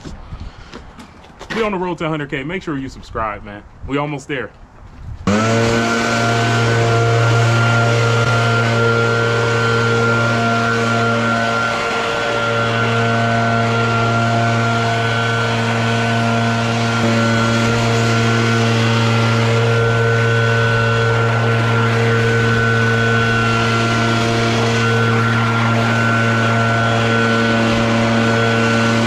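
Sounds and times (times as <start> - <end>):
leaf blower running: 5.2 - 29.0.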